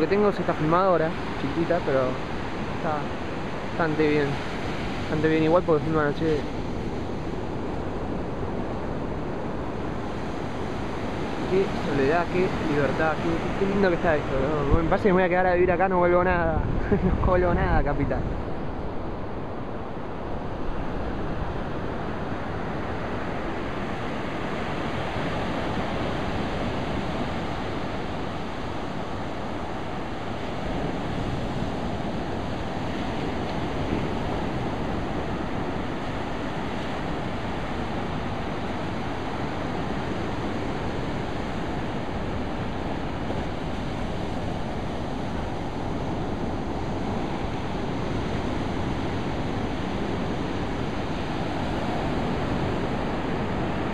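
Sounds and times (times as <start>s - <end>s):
surf breaking on beach: 0.0s - 18.7s, 20.2s - 53.9s
wind rumbling on microphone: 0.0s - 53.9s.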